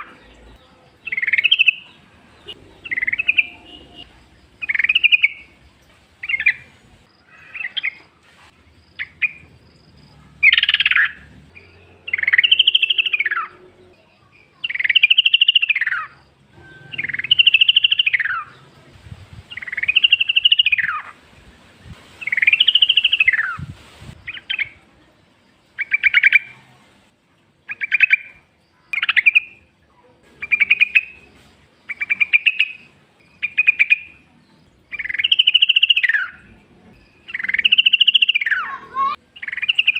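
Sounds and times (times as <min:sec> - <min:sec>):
bird singing rattling phrases: 0:00.0 - 0:08.0, 0:08.9 - 0:21.2, 0:22.2 - 0:24.8, 0:25.7 - 0:26.5, 0:27.6 - 0:29.7, 0:30.4 - 0:39.9.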